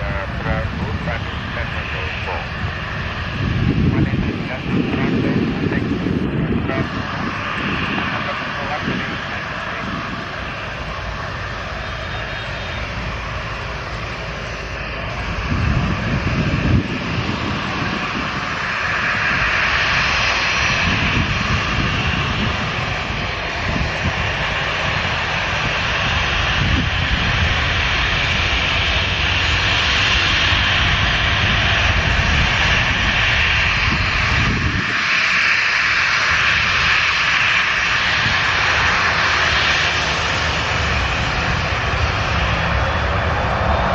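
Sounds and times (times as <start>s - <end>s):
jet engines running loud: 0.0s - 43.9s
wind buffeting microphone: 0.0s - 43.9s.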